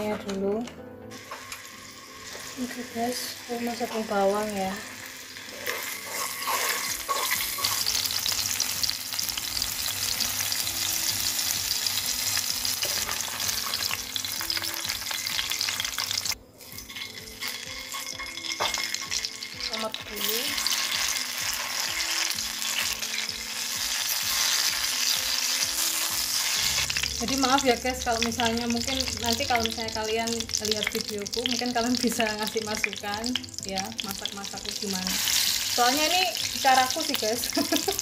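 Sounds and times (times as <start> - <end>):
shallots sizzling in hot oil: 1.1 - 38.0
tomatoes sizzling in oil: 1.1 - 38.0.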